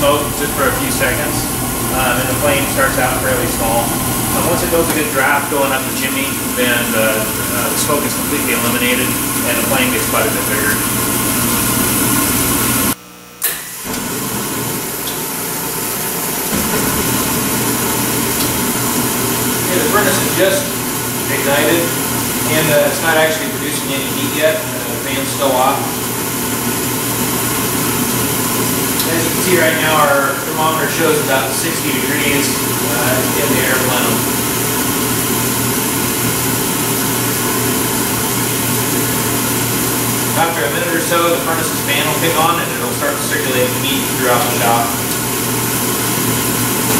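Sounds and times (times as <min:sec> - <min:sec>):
oil burner roaring: 0:00.0 - 0:46.9.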